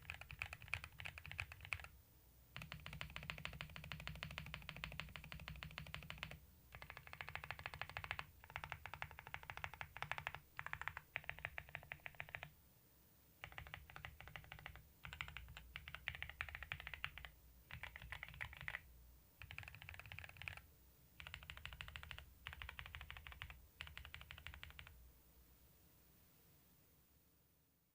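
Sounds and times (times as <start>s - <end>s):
mechanical keyboard typing: 0.0s - 1.9s, 2.6s - 12.5s, 13.4s - 18.8s, 19.4s - 25.0s.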